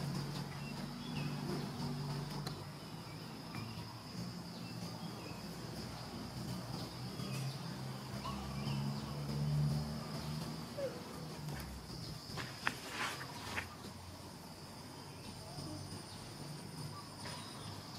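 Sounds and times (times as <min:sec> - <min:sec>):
crickets trilling: 0:00.0 - 0:17.9.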